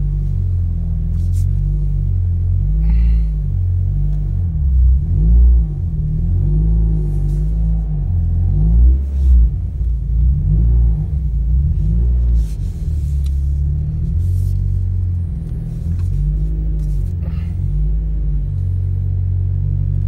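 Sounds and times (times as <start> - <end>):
car engine at low revs: 0.0 - 20.0.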